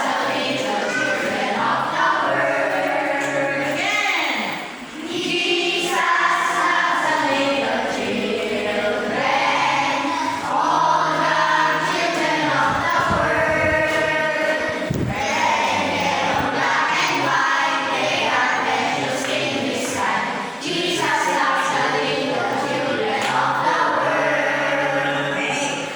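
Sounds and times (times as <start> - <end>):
group of voices singing: 0.0 - 25.9.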